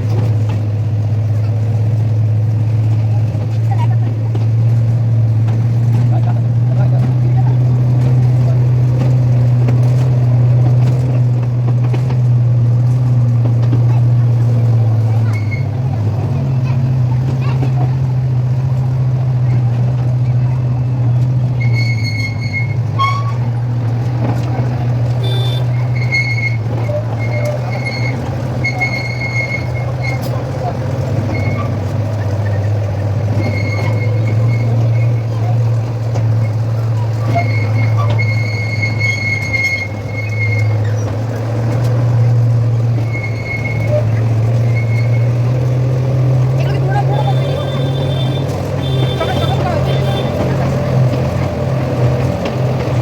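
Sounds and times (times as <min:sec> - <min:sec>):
wheels squealing on rails: 0:00.0 - 0:53.0.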